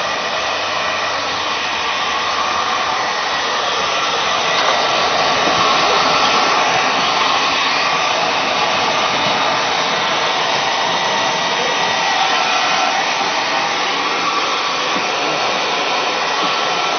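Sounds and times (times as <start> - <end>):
hair dryer blowing: 0.0 - 16.9.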